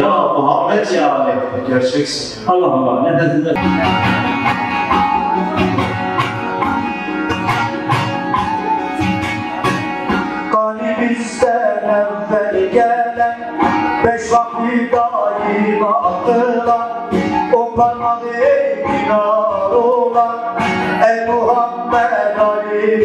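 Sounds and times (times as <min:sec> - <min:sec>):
long-necked lute dance tune: 0:03.6 - 0:23.0.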